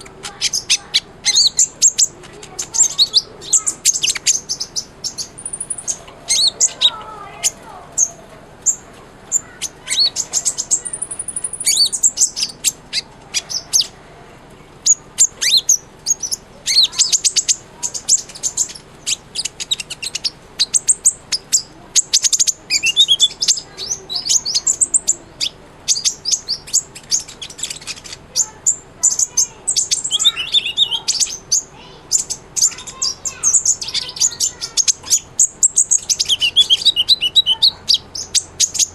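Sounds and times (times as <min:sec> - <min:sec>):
bird chirping and trilling: 0:00.0 - 0:14.0, 0:14.6 - 0:38.9.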